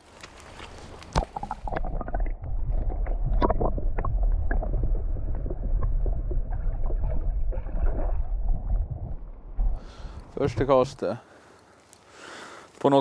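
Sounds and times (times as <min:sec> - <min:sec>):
underwater rumble of moving water: 0:00.0 - 0:11.2.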